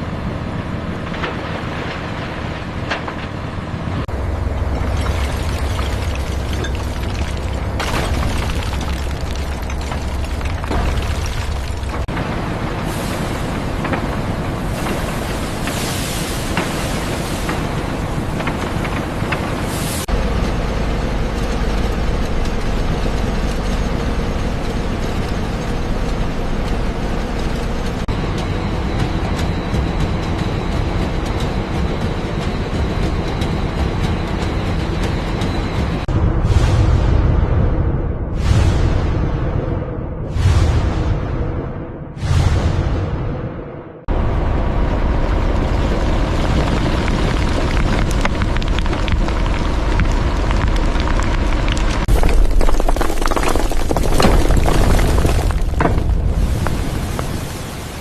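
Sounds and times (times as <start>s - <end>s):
heavy machinery rumbling: 0.0s - 39.2s, 42.2s - 58.0s.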